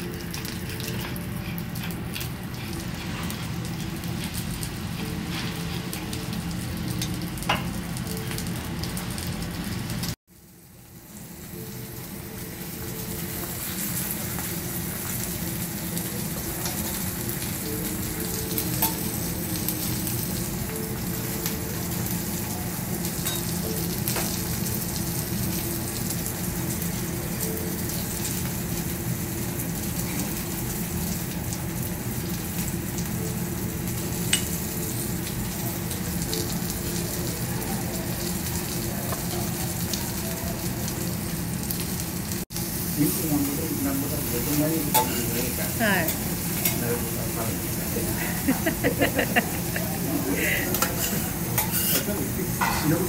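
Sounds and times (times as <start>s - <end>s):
meat sizzling on a griddle: 0.0s - 53.0s.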